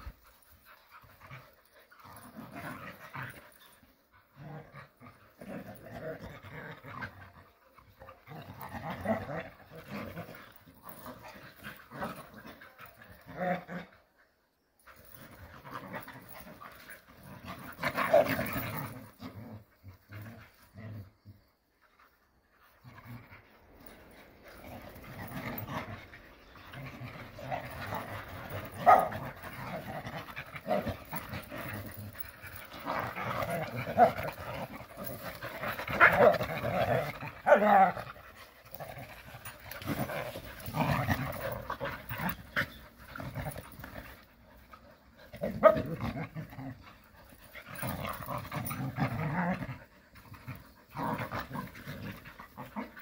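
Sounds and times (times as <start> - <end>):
dogs growling and panting: 0.0 - 53.0.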